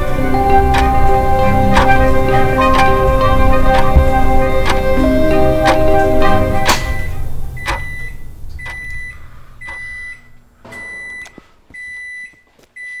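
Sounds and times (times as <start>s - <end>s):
microwave oven beeping: 0.0s - 13.0s.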